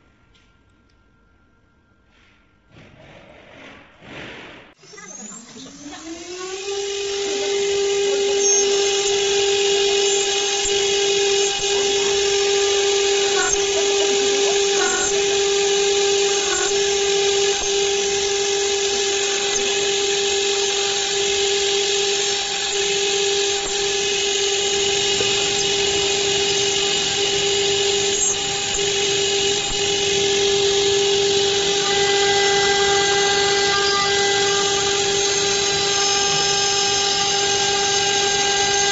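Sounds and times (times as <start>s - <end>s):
router spindle high whine: 4.8s - 38.9s.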